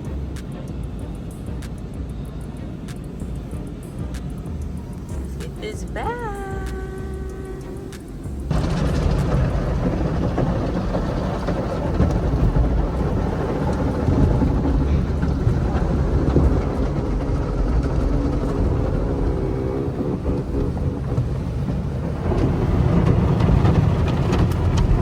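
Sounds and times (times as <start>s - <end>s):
car wash machinery: 0.0s - 25.0s
water spraying on car: 0.0s - 25.0s.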